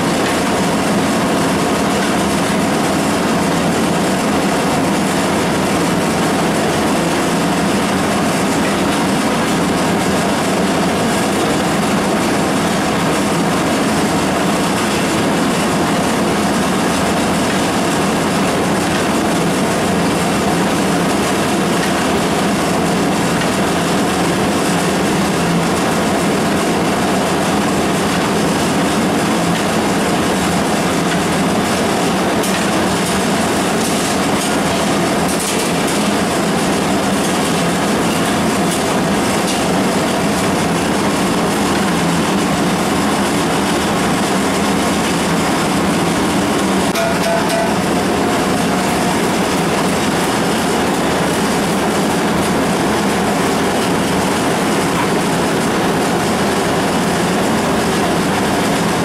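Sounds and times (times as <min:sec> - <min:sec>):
gas burner roaring: 0:00.0 - 0:59.0.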